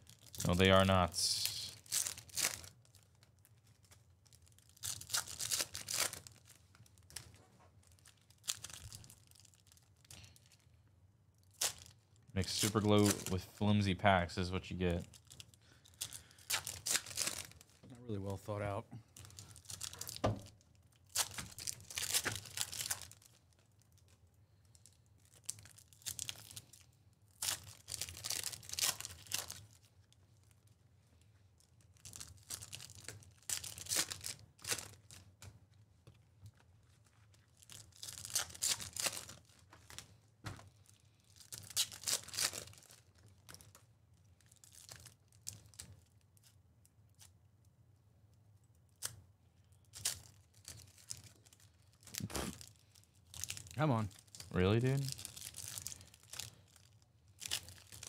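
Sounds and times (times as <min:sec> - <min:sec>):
foil wrappers ripping and crinkling: 0:00.0 - 0:10.7, 0:11.4 - 0:13.4, 0:14.8 - 0:17.8, 0:19.2 - 0:30.6, 0:31.6 - 0:35.5, 0:36.5 - 0:47.3, 0:49.8 - 0:58.0.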